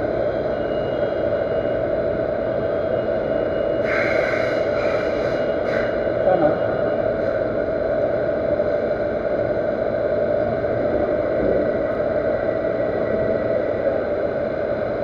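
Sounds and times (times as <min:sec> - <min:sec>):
constant whine: 0:00.0 - 0:15.0
machine hum and whir: 0:00.0 - 0:15.0.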